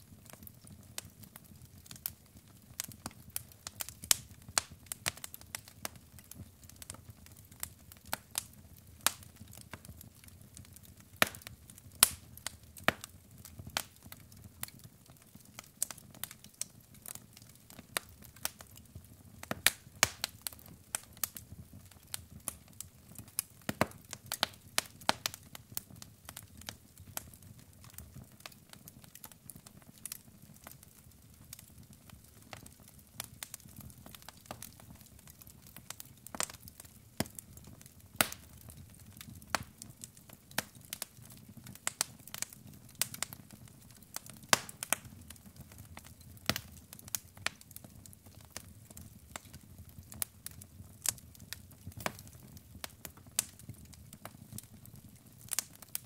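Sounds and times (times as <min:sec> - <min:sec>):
logs crackling and popping: 0:00.1 - 0:56.0.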